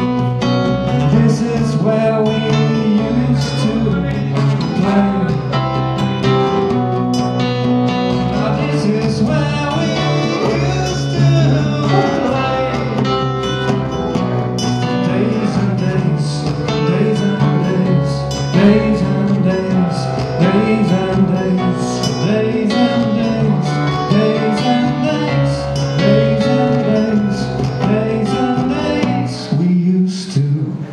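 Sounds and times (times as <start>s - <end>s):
man singing: 0.0s - 6.0s, 8.1s - 30.9s
electric guitar: 0.0s - 29.7s
strummed acoustic guitar: 0.0s - 30.9s.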